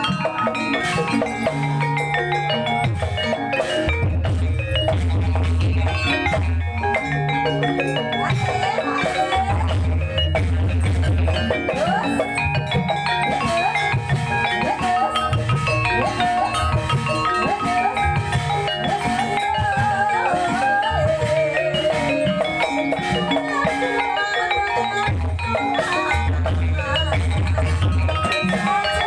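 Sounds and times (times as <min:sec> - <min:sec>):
bronze mallet instruments: 0:00.0 - 0:29.0
wavering melody line: 0:00.0 - 0:29.0.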